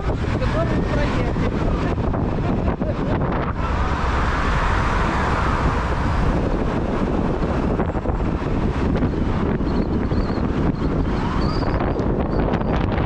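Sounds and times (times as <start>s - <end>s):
car road noise: 0.0s - 13.0s
wind rush on microphone: 0.0s - 13.0s.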